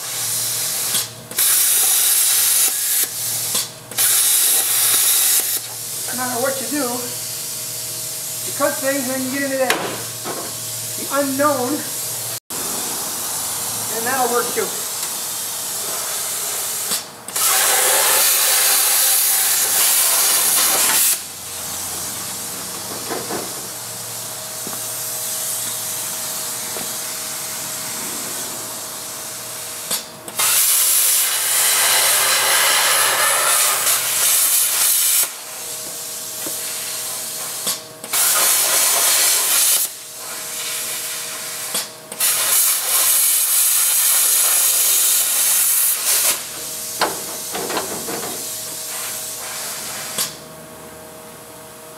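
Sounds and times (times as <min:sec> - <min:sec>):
plasma cutter hissing: 0:00.0 - 0:50.4.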